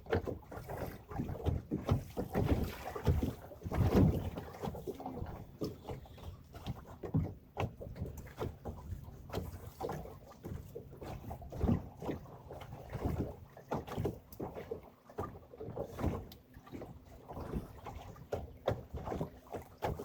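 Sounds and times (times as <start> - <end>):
water slapping against hull: 0.0 - 20.0.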